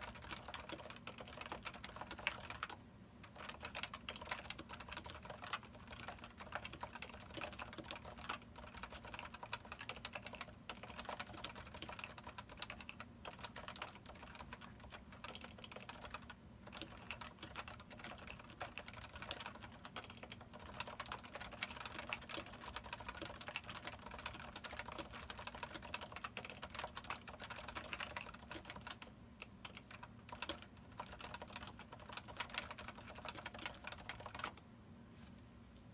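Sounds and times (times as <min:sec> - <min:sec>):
fast typing on keyboard: 0:00.0 - 0:34.6.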